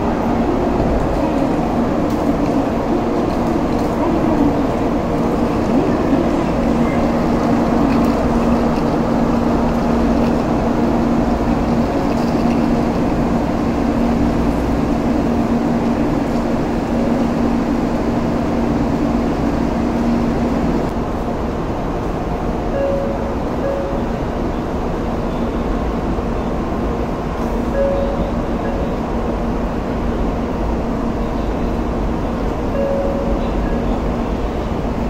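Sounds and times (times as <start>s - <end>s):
train mechanical hum: 0.0s - 35.0s.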